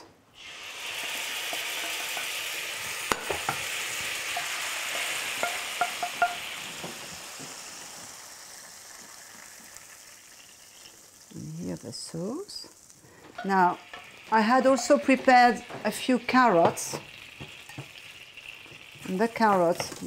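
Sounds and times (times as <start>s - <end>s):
meat sizzling in a frying pan: 0.4s - 20.0s.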